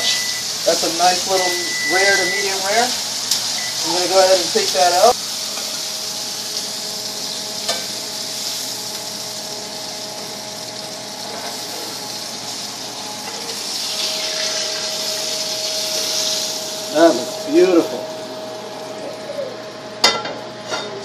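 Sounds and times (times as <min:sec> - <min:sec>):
sizzling in frying pan: 0:00.0 - 0:21.0.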